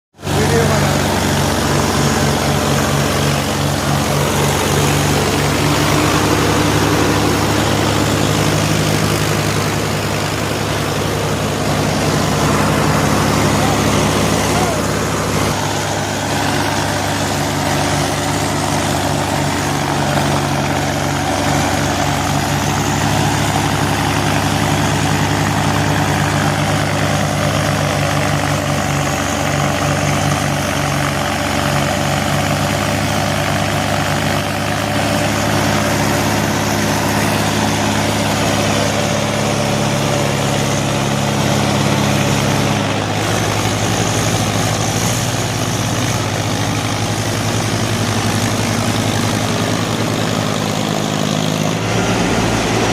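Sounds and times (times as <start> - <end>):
tractor engine running: 0.1 - 52.9.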